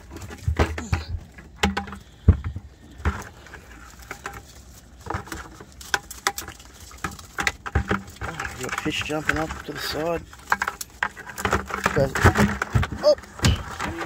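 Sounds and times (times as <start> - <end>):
crab pot knocking and rattling: 0.0 - 14.0.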